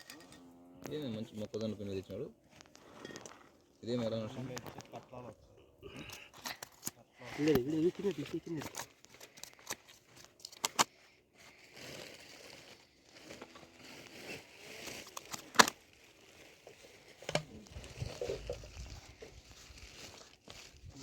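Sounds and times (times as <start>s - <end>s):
plastic crinkling and rustling: 0.0s - 5.3s, 6.0s - 21.0s.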